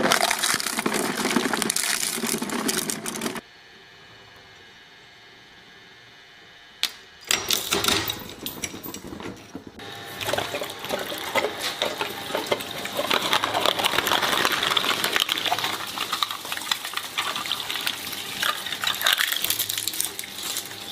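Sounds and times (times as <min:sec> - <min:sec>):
shredder blades crunching: 0:00.0 - 0:03.4, 0:07.4 - 0:20.9.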